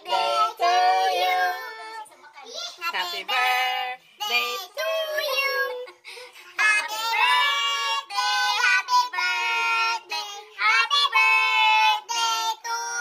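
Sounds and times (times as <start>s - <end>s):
child singing: 0.0s - 6.0s, 6.6s - 13.0s.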